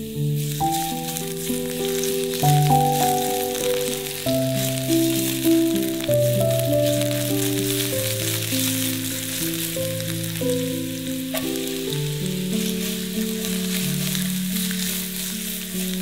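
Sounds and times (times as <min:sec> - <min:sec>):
food sizzling in oil: 0:00.0 - 0:16.0
soft background music: 0:00.0 - 0:16.0.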